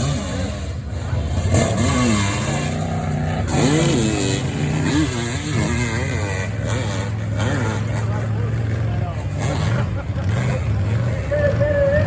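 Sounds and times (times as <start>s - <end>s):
motorcycle engine with throttle blips: 0.0s - 12.0s.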